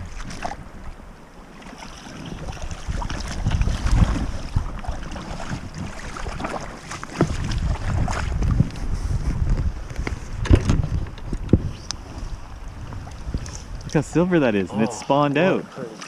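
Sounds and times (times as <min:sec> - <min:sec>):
wind buffeting microphone: 0:00.0 - 0:15.3
river water running: 0:00.0 - 0:16.0.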